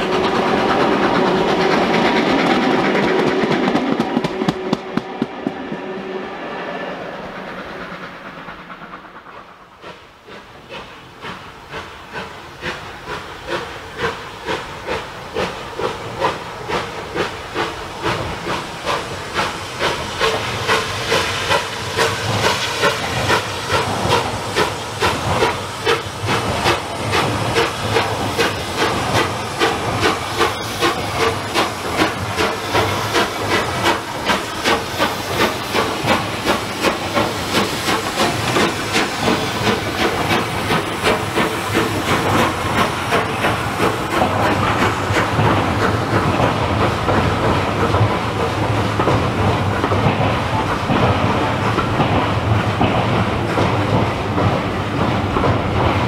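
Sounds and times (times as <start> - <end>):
steam locomotive exhaust chuffs: 0.0 - 56.0.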